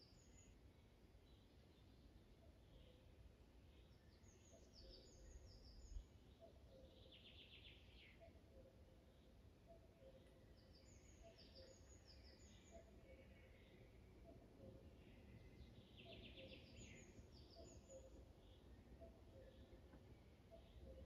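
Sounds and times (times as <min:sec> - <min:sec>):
woodland birdsong: 0:00.0 - 0:21.0.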